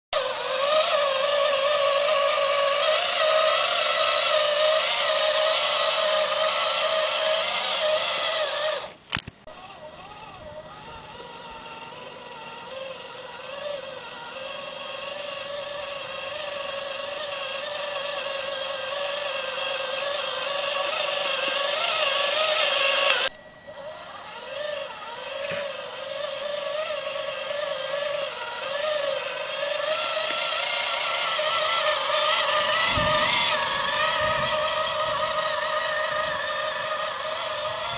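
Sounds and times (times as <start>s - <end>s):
toy tractor motor whine: 0.1s - 37.9s.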